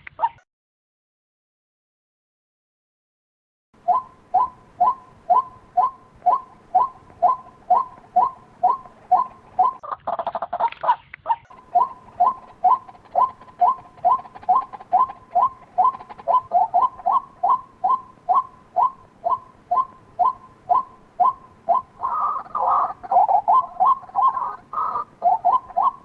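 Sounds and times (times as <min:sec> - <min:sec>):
waterhen calling: 0:03.8 - 0:26.0.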